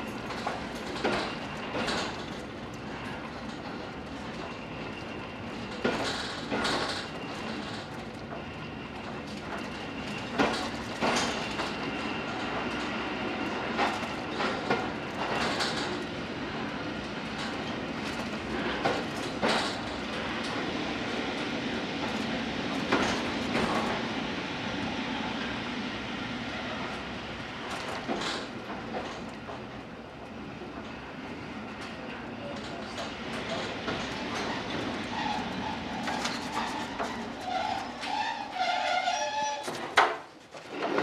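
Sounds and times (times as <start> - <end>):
wheels clacking on rail joints: 0.0 - 20.6, 26.9 - 31.0, 31.7 - 41.0
train rumbling on track: 0.0 - 41.0.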